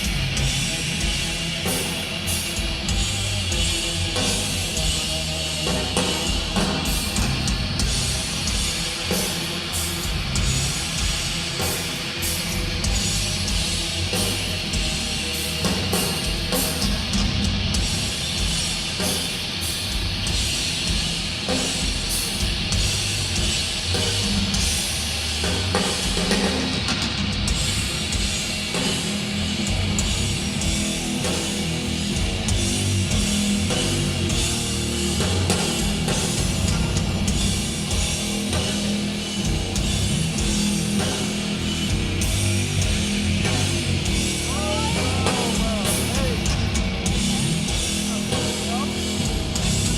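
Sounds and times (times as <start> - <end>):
metal band playing live: 0.0 - 49.9.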